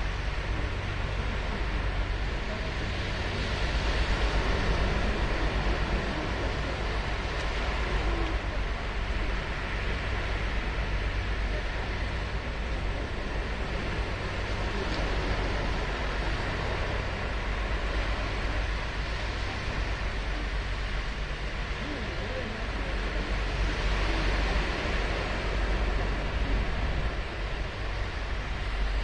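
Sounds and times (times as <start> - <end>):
ocean surf washing on beach: 0.0 - 29.0.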